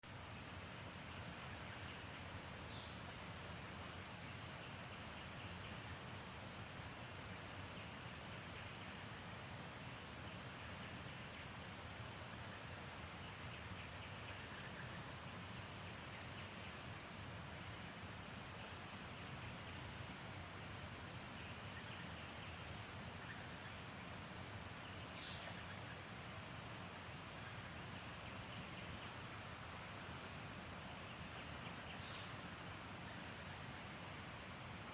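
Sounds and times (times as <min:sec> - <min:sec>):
insect chorus trilling: 0:00.2 - 0:34.9.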